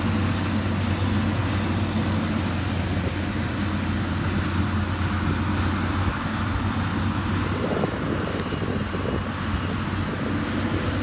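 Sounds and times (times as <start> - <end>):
heavy machinery diesel engine: 0.0 - 11.0.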